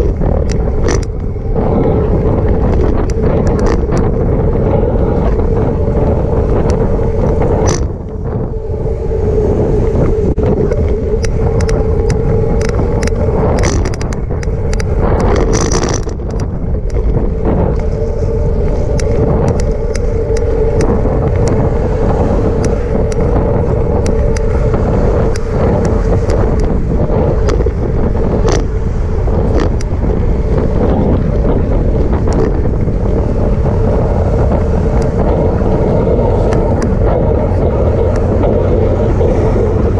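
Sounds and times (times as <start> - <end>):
steady hum: 0.0 - 39.9
tyres rumbling on path: 0.0 - 39.9
wind buffeting microphone: 0.0 - 39.9.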